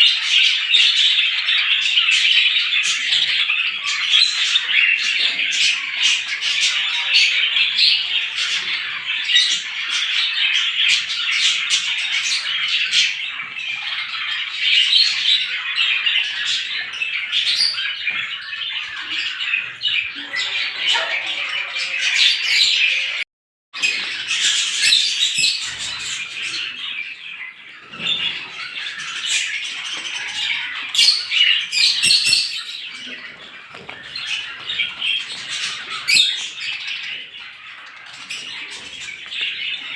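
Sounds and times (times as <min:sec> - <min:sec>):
sparrows chirping: 0:00.0 - 0:23.2, 0:23.8 - 0:39.9.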